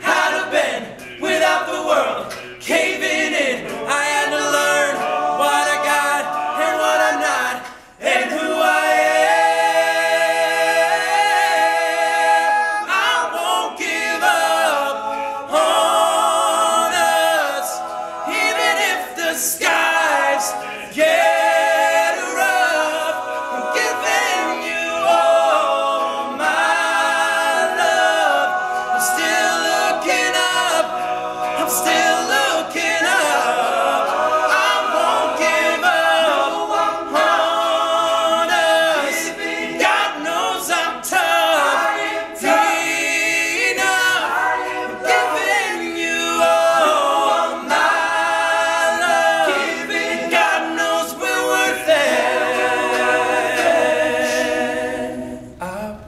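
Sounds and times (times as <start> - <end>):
male a cappella group singing: 0.0 - 56.0.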